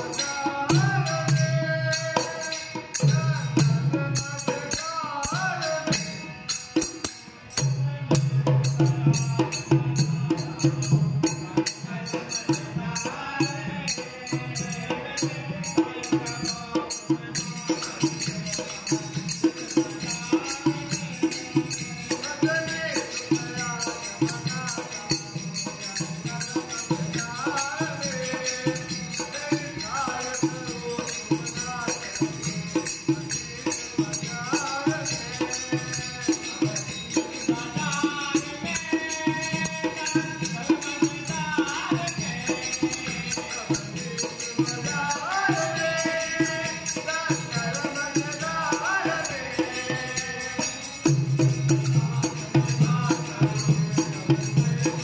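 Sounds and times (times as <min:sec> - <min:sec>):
dholak drum: 0:00.0 - 0:55.0
hand percussion: 0:00.0 - 0:55.0
harmonium: 0:00.0 - 0:55.0.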